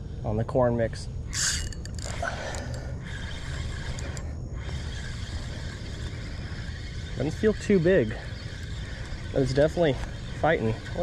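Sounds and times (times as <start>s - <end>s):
steady low rumble: 0.0s - 11.0s
spinning reel being cranked: 1.3s - 11.0s.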